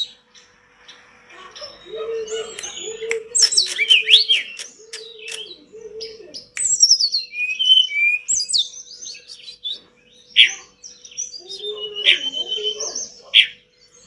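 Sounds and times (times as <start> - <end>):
low wavering hooting call: 0.0 - 9.4, 10.4 - 13.6
songbird singing: 0.0 - 14.0.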